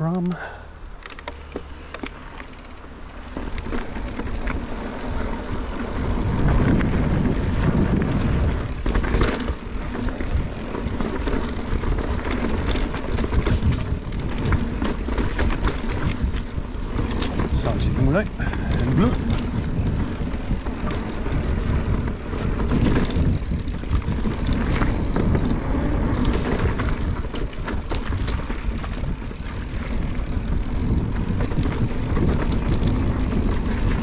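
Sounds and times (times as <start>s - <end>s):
bike clicks and rattles: 0.3s - 34.0s
tyres rolling on dirt: 1.0s - 34.0s
wind rushing over microphone: 4.1s - 34.0s.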